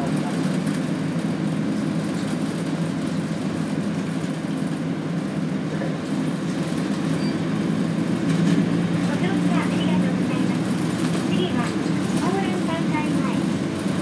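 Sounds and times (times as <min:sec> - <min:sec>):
bus engine drone from inside: 0:00.0 - 0:14.0.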